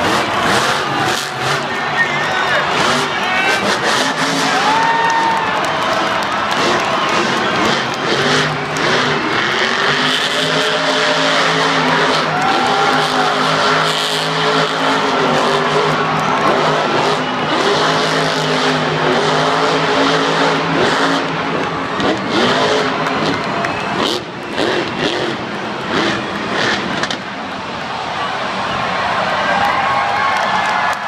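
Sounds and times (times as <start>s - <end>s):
monster truck engine revving: 0.0s - 29.7s.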